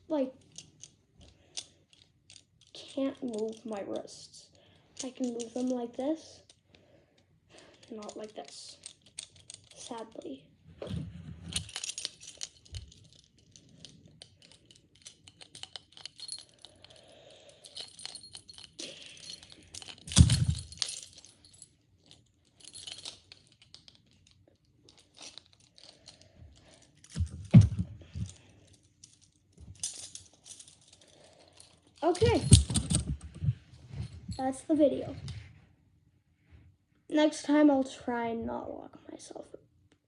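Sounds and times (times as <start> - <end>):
handcuffs clinking and jangling: 0.1 - 35.4.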